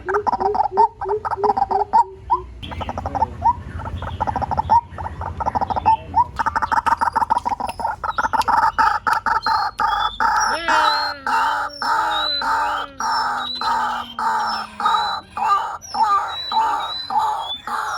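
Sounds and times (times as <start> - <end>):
waterhen calling harsh notes: 0.0 - 17.9.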